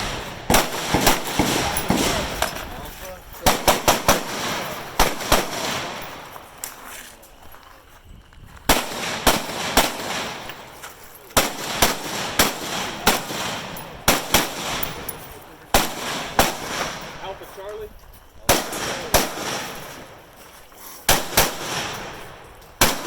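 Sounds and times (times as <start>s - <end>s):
rifle shots with echo: 0.0s - 6.6s, 8.7s - 17.5s, 18.5s - 20.2s, 21.1s - 23.0s.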